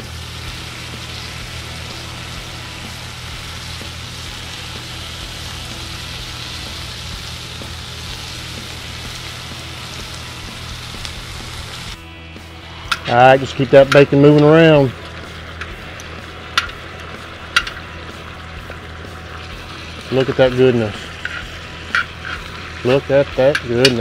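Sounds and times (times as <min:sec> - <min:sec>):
low hum: 0:00.0 - 0:22.9
bacon sizzling on hot metal: 0:00.0 - 0:24.0.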